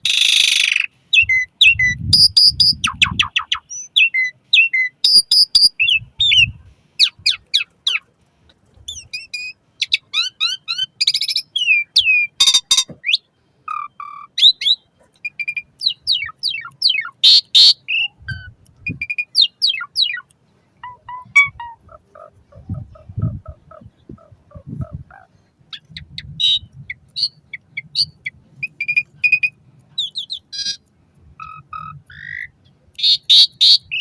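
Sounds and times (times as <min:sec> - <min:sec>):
starling singing whistles and chirps: 0:00.0 - 0:08.1, 0:08.9 - 0:21.8, 0:25.7 - 0:30.8, 0:31.4 - 0:34.0.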